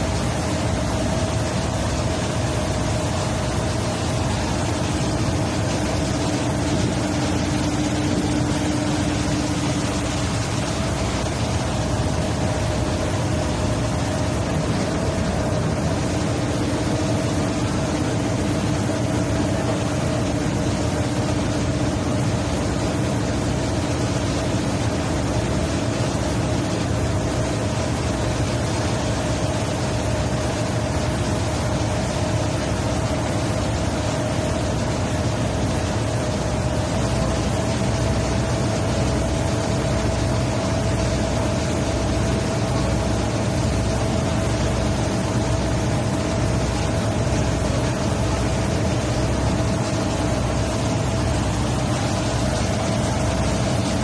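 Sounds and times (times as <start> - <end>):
boat engine drone: 0.0 - 54.0
churning wake water: 0.0 - 54.0.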